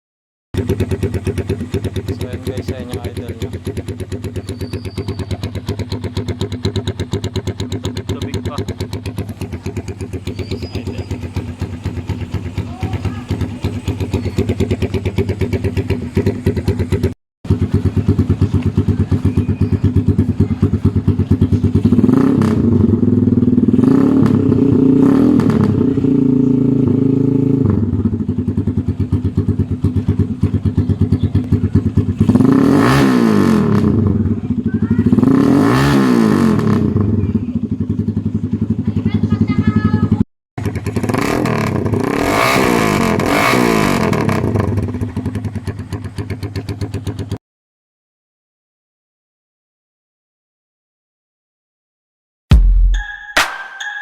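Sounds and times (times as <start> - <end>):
motorcycle engine revving: 0.6 - 47.4.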